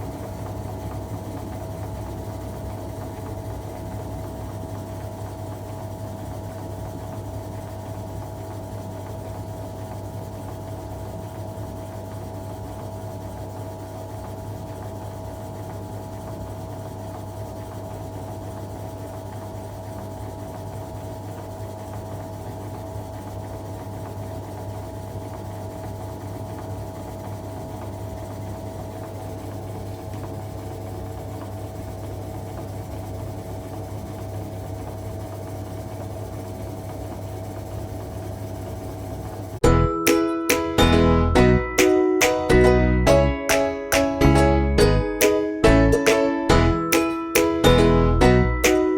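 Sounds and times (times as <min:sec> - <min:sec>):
washing machine motor hum: 0:00.0 - 0:48.9.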